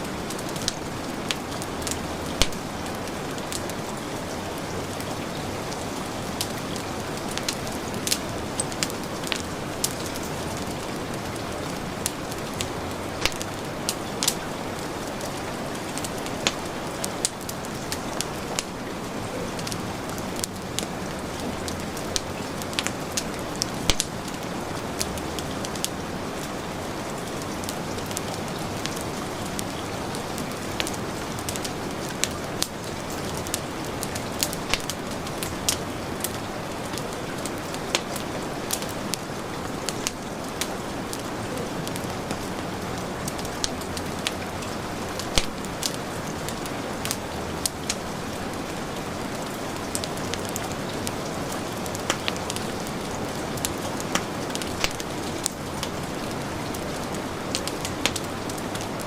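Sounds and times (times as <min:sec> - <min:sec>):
heavy rain hiss: 0:00.0 - 0:59.0
wood fire crackling: 0:00.0 - 0:59.0.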